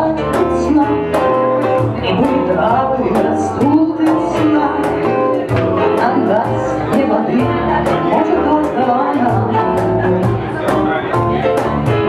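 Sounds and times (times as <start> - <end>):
woman singing: 0.0 - 10.6
bass guitar: 0.0 - 12.0
electric guitar: 0.0 - 12.0
keyboard piano: 0.0 - 12.0.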